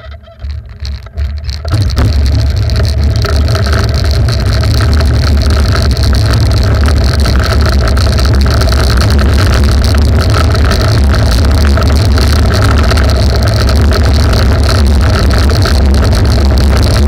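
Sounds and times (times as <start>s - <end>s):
cart wheels rumbling on asphalt: 0.0s - 17.0s
clicks and knocks: 0.2s - 17.0s.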